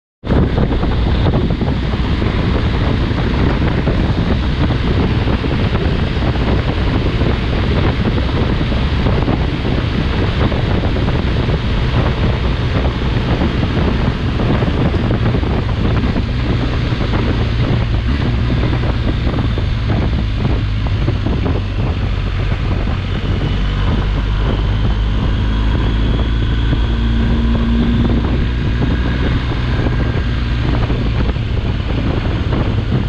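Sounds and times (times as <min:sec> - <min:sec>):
motorcycle engine drone: 0:00.2 - 0:33.0
wind rushing over microphone: 0:00.2 - 0:33.0.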